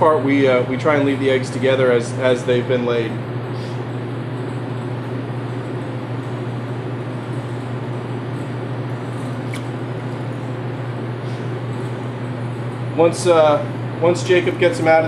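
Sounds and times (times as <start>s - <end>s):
air conditioner hum: 0.0s - 15.0s.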